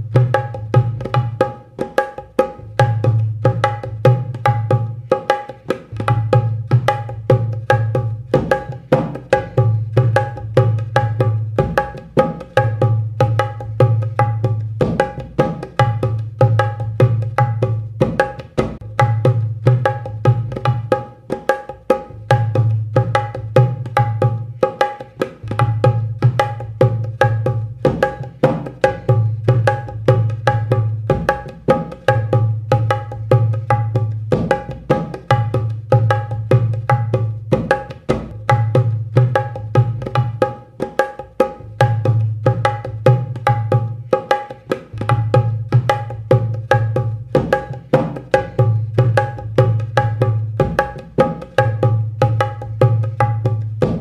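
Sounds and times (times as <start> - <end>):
dholak drum rhythm: 0.0 - 54.0.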